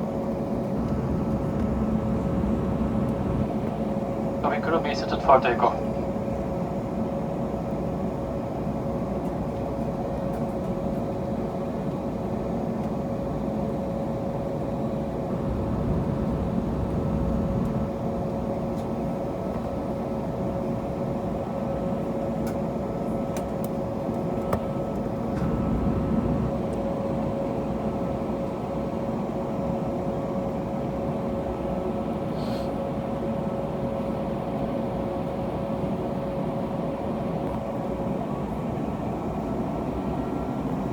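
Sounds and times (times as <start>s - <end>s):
aircraft cabin engine hum: 0.0s - 40.9s.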